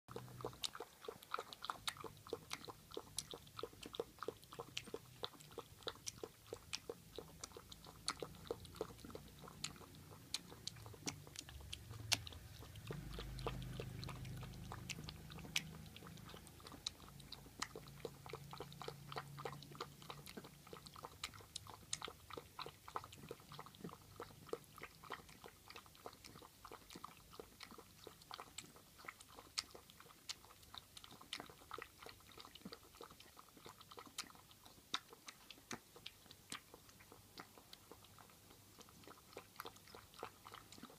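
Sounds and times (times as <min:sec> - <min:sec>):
puppy lapping milk: 0:00.1 - 0:40.9.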